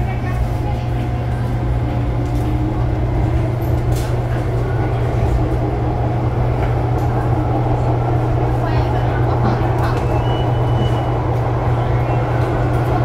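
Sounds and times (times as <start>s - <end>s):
electric train low hum: 0.0s - 13.0s
wheels rumbling on rail: 0.0s - 13.0s.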